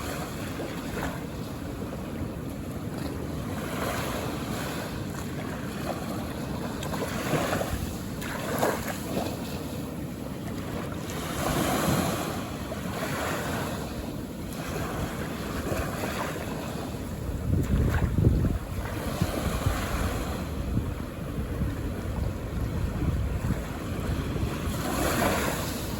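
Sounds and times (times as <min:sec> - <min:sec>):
ocean waves washing onto beach: 0:00.0 - 0:25.9.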